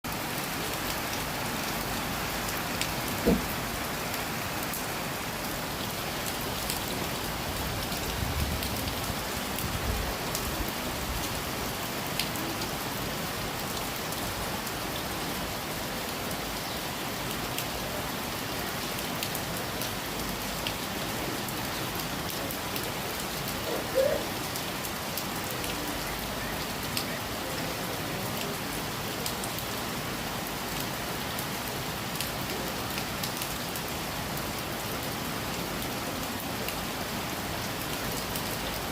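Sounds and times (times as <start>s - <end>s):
steady rain falling: 0.0s - 38.9s
raindrops ticking on a surface: 0.1s - 38.9s.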